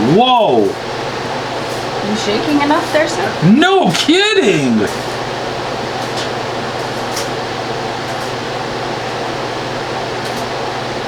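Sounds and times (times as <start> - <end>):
heat gun blowing with motor hum: 0.4 - 9.5.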